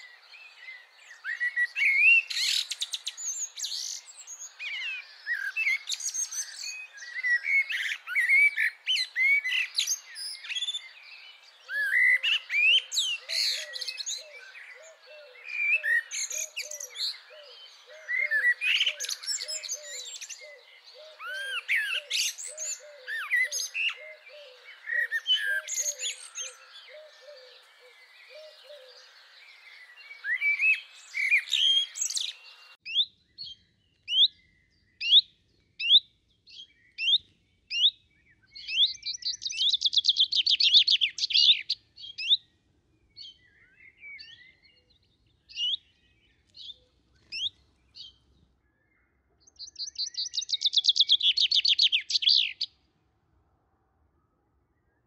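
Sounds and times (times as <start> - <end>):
birds singing and calling: 0.0 - 52.9
low repeated bird call: 0.0 - 55.0.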